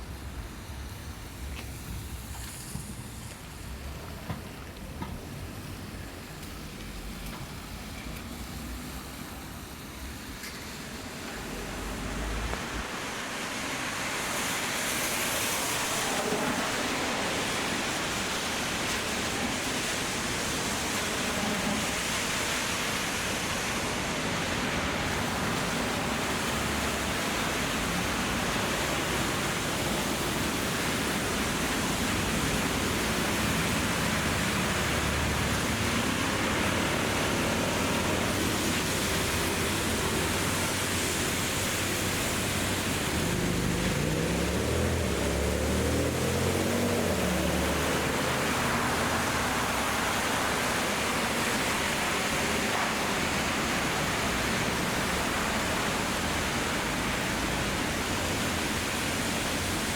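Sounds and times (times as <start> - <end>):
heavy rain hissing: 0.0 - 59.9
traffic on wet road: 0.0 - 59.9.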